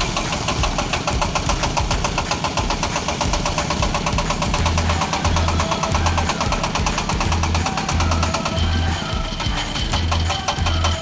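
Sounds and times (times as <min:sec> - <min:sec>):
deep repeating pulse: 0:00.0 - 0:11.0
diesel engine knocking: 0:00.0 - 0:11.0.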